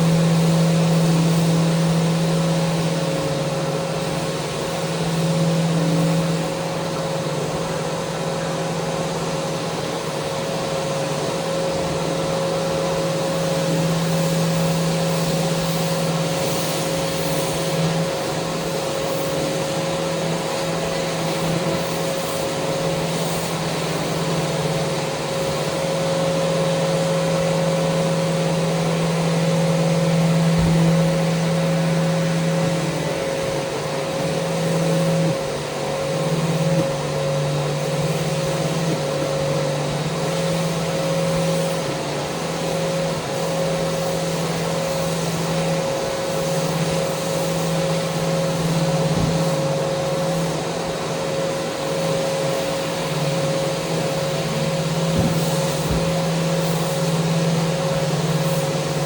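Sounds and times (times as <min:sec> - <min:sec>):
electric sander running: 0:00.0 - 0:59.0.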